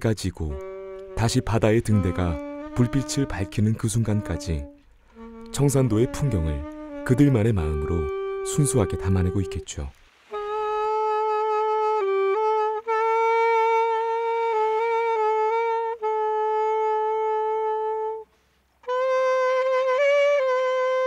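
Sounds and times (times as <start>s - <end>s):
solo saxophone melody: 0.0s - 21.0s.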